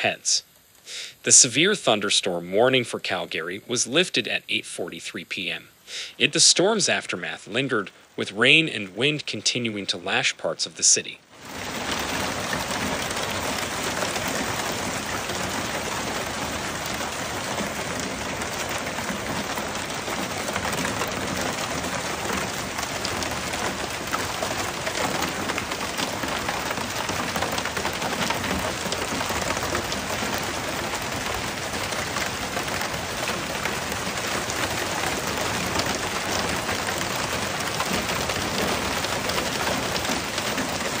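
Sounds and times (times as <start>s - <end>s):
heavy rain on hard surfaces: 0.0s - 41.0s.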